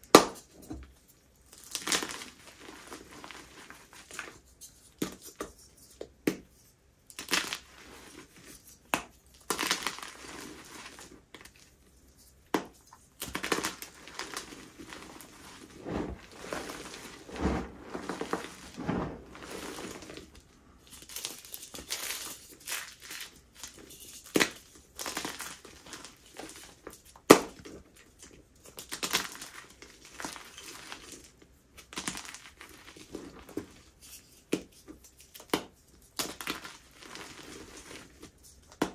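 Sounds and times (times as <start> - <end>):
chalk crushing and crumbling: 1.4 - 38.9.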